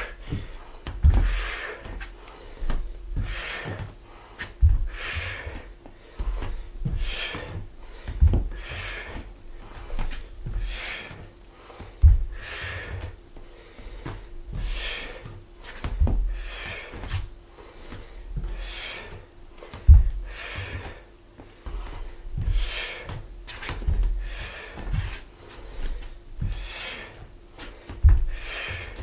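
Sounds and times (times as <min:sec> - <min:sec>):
bare feet thudding on wooden floor: 0:00.0 - 0:29.0.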